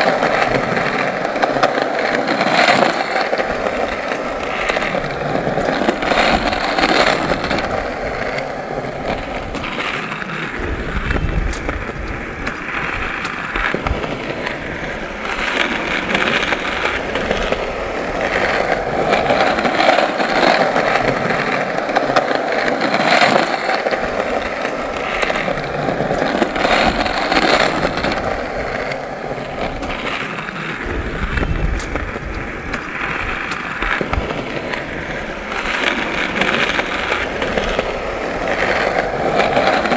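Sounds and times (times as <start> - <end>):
skateboard clacks and knocks: 0.0 - 39.9
skateboard wheels rolling on pavement: 0.0 - 39.9.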